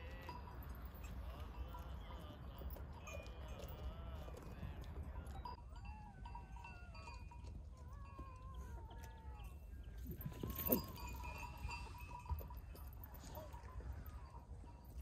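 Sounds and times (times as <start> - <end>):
animal bells ringing: 0.0 - 15.0.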